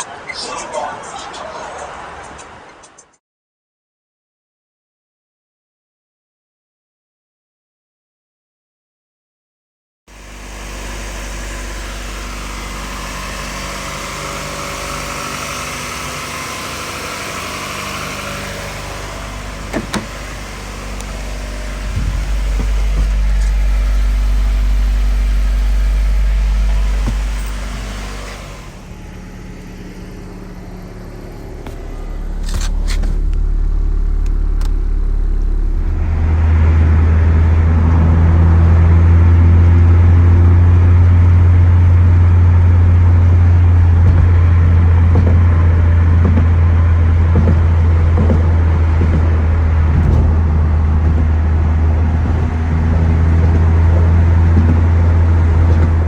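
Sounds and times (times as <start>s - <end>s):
car engine droning: 10.1s - 56.0s.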